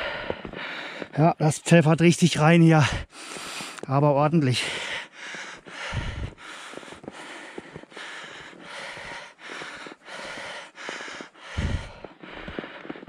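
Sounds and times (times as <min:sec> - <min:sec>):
person breathing hard: 0:00.0 - 0:01.2, 0:02.8 - 0:03.9, 0:04.6 - 0:13.0.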